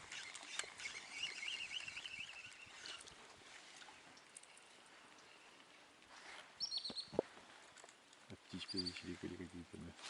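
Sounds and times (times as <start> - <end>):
faint outdoor background hiss: 0.0 - 10.0.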